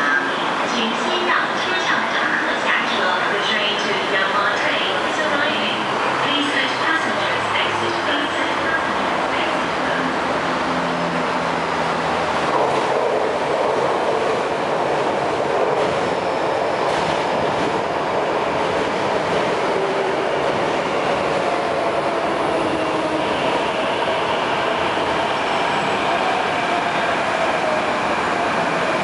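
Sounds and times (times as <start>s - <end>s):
train wheels rumbling on rails: 0.4s - 29.0s.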